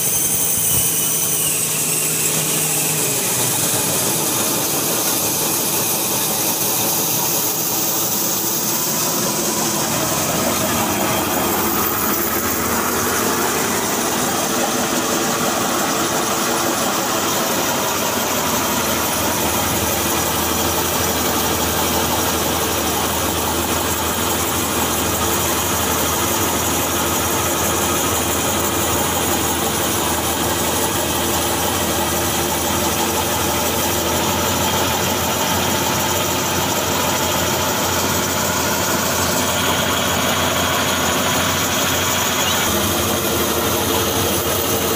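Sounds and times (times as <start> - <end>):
tractor engine hum: 0.0 - 44.9.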